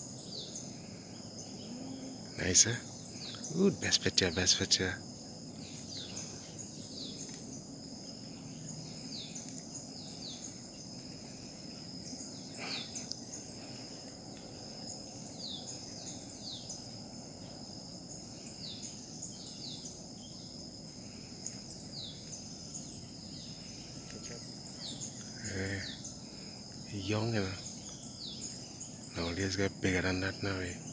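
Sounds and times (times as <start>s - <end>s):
low steady rush: 0.0s - 29.4s
insects trilling: 0.0s - 30.9s.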